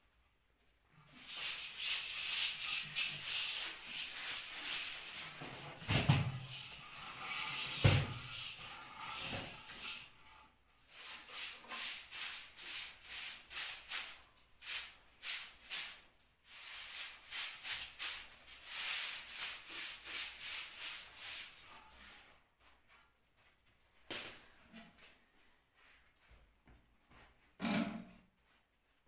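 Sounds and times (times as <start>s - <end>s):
straw broom sweeping: 1.0s - 26.2s.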